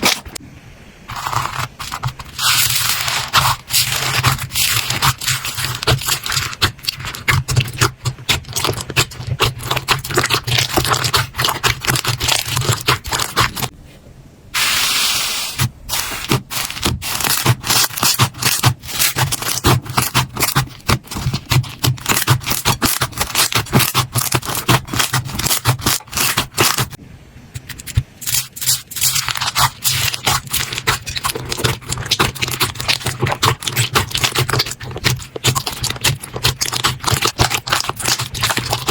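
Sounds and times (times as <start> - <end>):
slime crackling and popping: 1.1 - 13.7, 15.6 - 27.0, 27.6 - 38.9.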